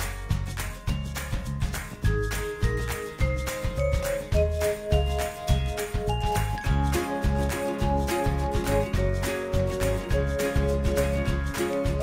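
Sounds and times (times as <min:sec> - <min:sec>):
music with bass beat: 0:00.0 - 0:12.0.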